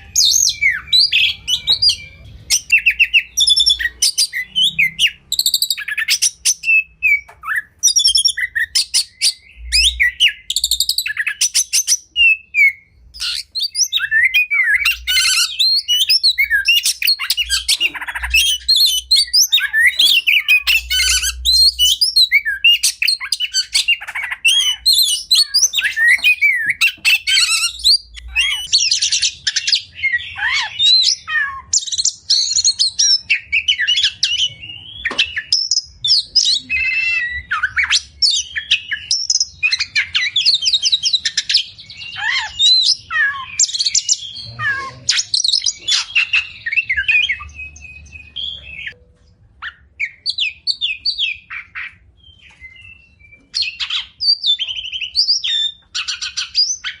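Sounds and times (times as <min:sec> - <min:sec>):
songbird singing varied song: 0:00.0 - 0:49.0.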